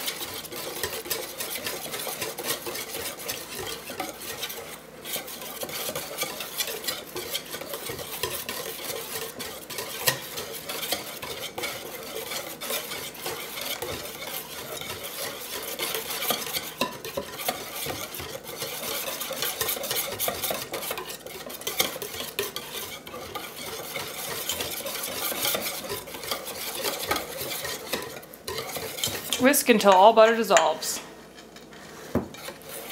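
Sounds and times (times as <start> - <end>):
whisk scraping metal bowl: 0.0 - 32.9.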